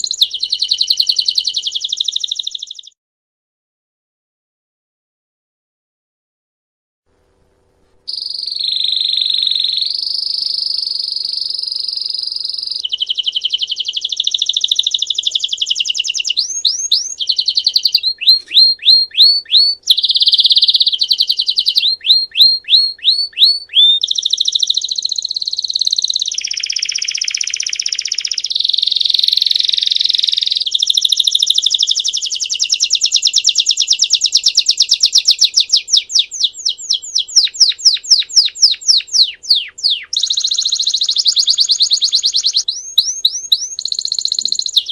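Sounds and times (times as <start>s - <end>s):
canary singing trills: 0.0s - 3.0s, 8.1s - 44.9s.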